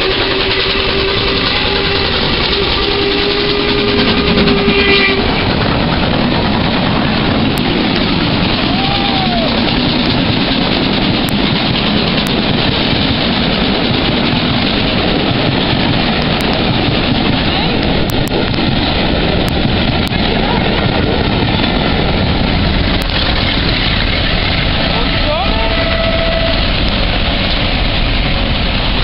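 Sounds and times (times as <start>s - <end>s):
steam train running noise: 0.0s - 29.0s.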